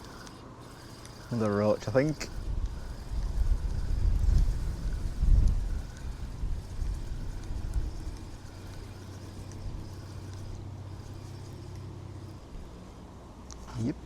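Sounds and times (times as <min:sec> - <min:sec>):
low engine hum: 0:00.0 - 0:14.0
wind buffeting microphone: 0:00.8 - 0:12.8.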